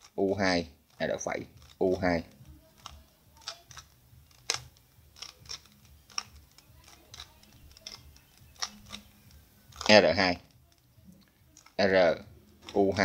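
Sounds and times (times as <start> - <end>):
puzzle cube plastic clicks: 0.0 - 13.0.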